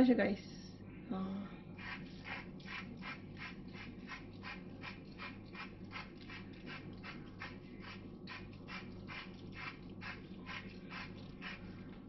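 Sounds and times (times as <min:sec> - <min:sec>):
steady low hum: 0:00.0 - 0:12.0
salt mill grinding: 0:01.8 - 0:11.9.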